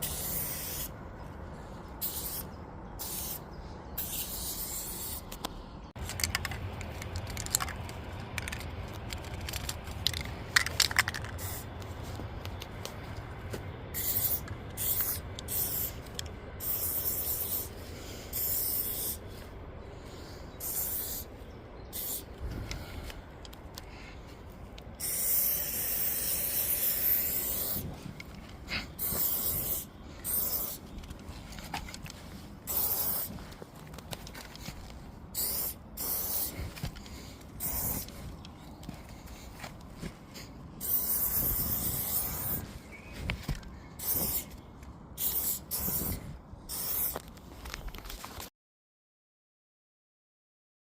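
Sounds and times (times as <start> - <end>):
spray paint cans spraying: 0.0 - 0.9, 2.0 - 13.0, 13.9 - 19.5, 20.6 - 21.3, 21.9 - 23.8, 24.8 - 44.6, 45.2 - 48.3.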